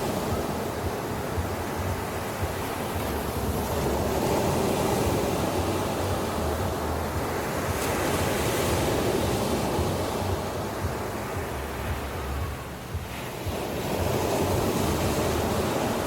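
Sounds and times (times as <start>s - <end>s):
ocean surf washing: 0.0s - 16.0s
wind rumbling on microphone: 0.0s - 16.0s.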